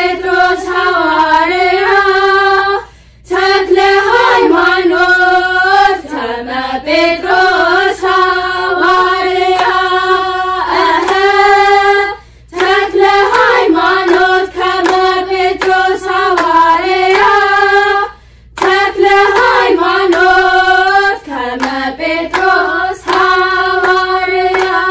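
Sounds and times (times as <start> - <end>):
girls choir singing hymn: 0.0 - 24.9.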